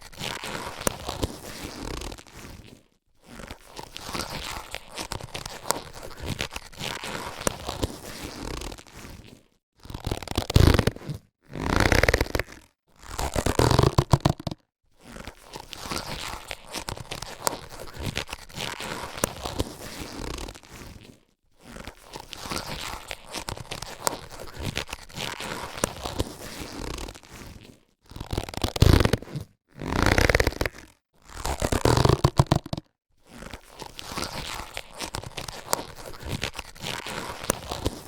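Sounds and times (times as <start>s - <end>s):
latex gloves crinkling: 0.0s - 38.0s.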